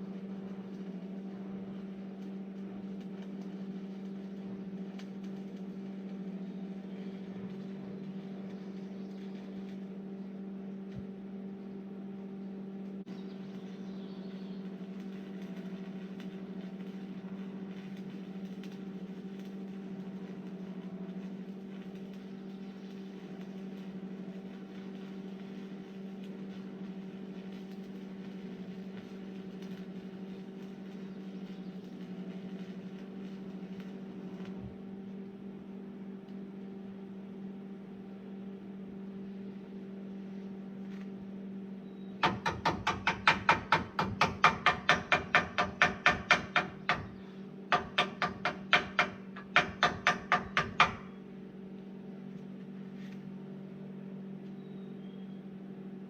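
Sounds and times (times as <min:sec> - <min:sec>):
welding machine humming: 0:00.0 - 0:56.0.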